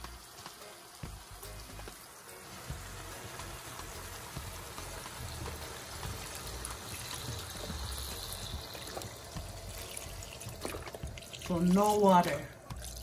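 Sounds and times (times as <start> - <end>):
liquid pouring into a pot: 1.0 - 13.0.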